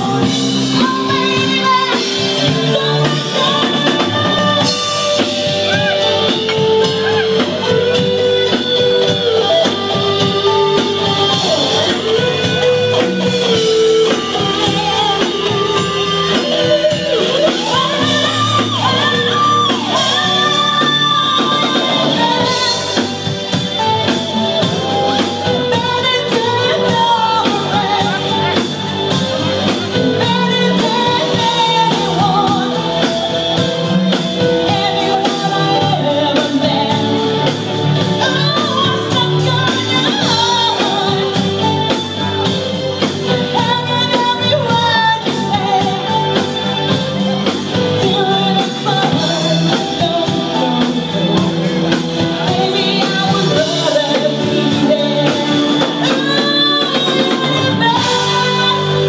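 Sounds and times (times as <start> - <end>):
live band playing: 0.0 - 59.0
person singing: 0.0 - 59.0.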